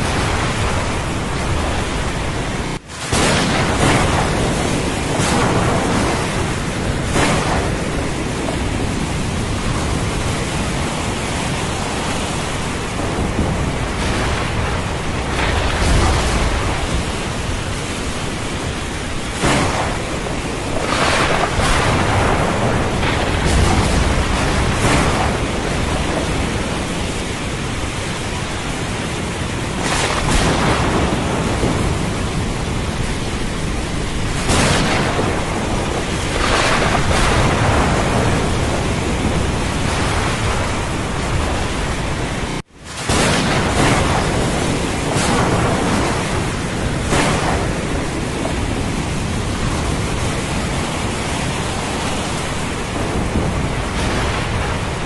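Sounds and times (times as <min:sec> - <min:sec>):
heavy rain: 0:00.0 - 0:55.0
thunder rumble: 0:00.0 - 0:55.0.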